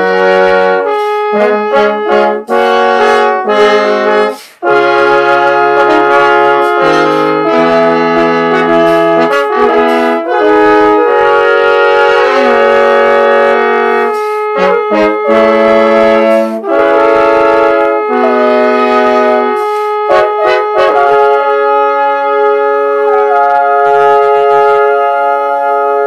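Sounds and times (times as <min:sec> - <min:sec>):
trombones playing sustained chords: 0:00.0 - 0:26.0.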